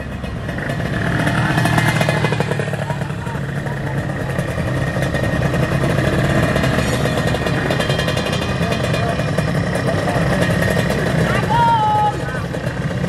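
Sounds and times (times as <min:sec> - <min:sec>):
motorcycle engine running loud: 0:00.0 - 0:13.0.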